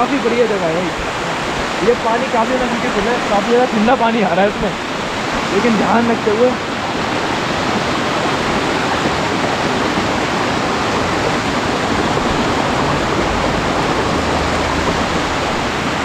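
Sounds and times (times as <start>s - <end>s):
waterfall splashing over rocks: 0.0s - 16.0s.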